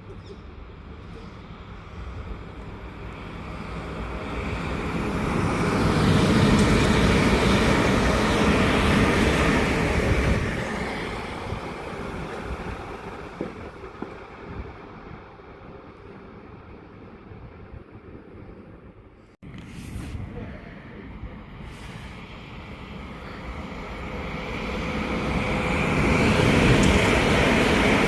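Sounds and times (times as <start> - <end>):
train passing rumble: 0.0 - 28.0.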